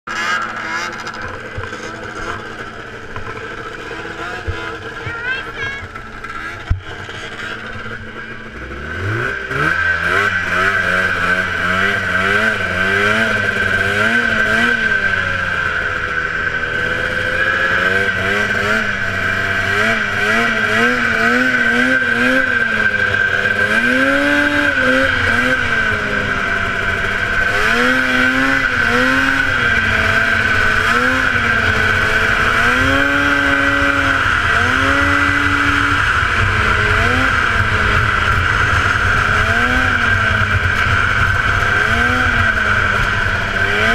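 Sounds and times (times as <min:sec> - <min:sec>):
snowmobile engine revving: 0:00.1 - 0:43.9
steady high whine: 0:00.1 - 0:43.9.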